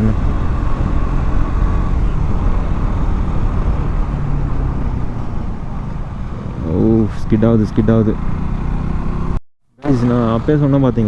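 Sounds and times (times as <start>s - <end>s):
wind rushing over microphone: 0.0s - 9.4s
motorcycle engine running: 0.0s - 11.0s.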